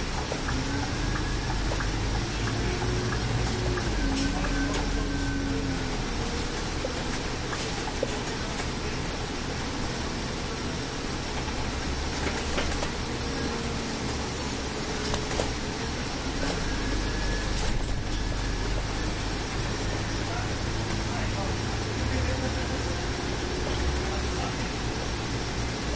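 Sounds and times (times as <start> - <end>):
bus engine rumble: 0.0 - 25.9
faint whine: 0.4 - 25.9.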